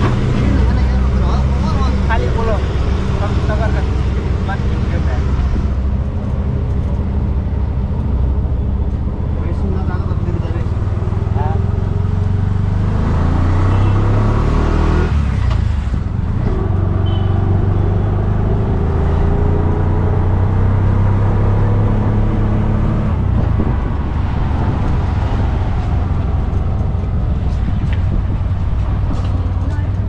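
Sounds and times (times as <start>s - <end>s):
road and traffic noise: 0.0s - 30.0s.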